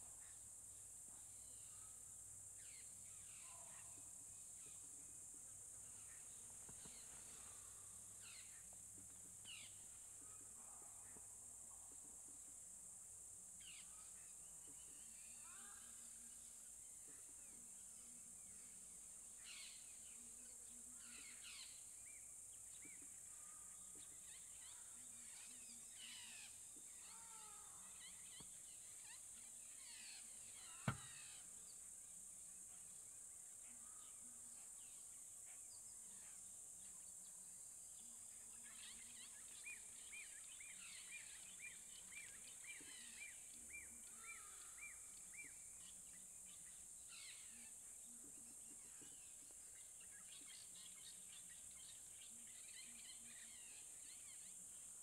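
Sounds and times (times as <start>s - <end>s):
steady high-pitched hiss: 0.0s - 55.0s.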